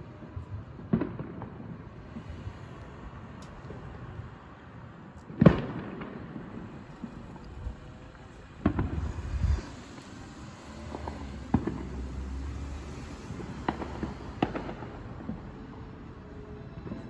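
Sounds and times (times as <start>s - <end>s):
fireworks bangs and pops: 0.2s - 4.4s, 5.2s - 16.2s.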